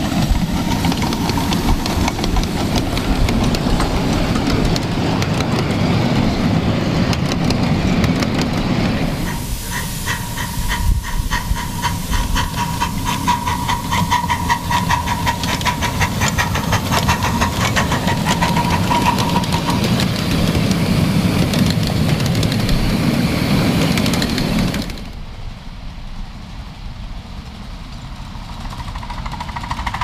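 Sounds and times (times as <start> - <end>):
steam hissing: 0.0 - 25.2
steam locomotive exhaust beats: 0.0 - 30.0.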